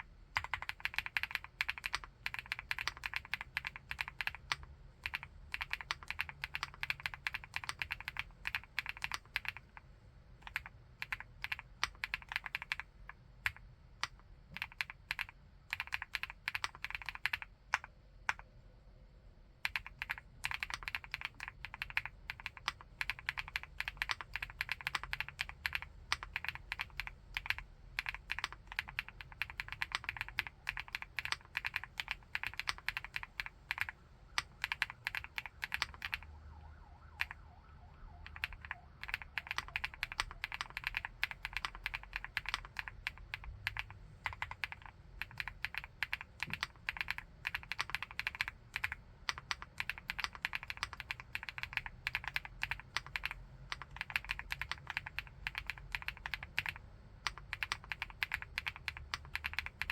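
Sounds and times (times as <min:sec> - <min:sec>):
fast keyboard typing: 0:00.0 - 0:09.8, 0:10.4 - 0:18.4, 0:19.6 - 0:36.3, 0:37.1 - 0:37.4, 0:38.2 - 0:59.9.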